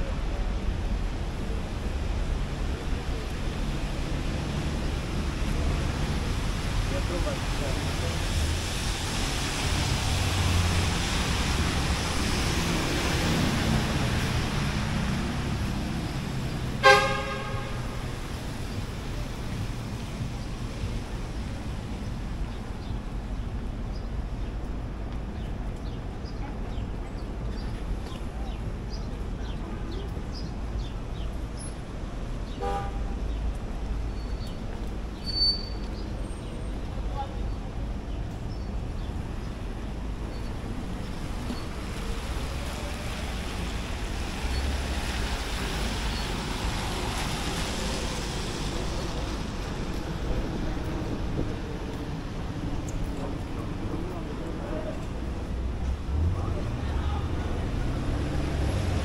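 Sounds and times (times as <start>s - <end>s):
city street hiss and rumble: 0.0s - 59.0s.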